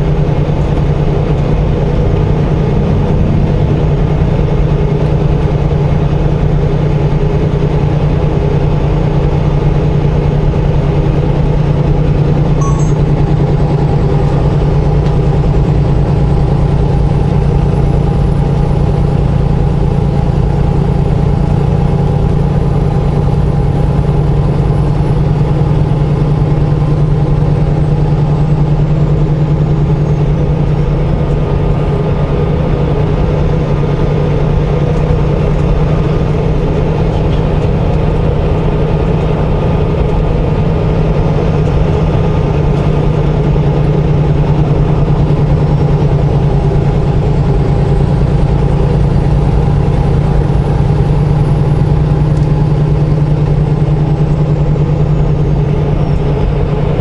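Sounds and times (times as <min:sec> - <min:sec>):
truck diesel engine droning: 0:00.0 - 0:57.0
tyre and road noise: 0:00.0 - 0:57.0.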